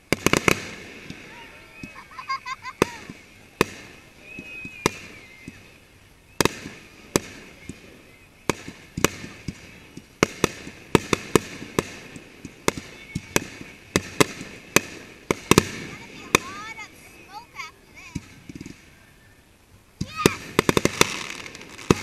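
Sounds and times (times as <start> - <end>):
firework shells bursting: 0.0 - 19.2, 19.8 - 22.0.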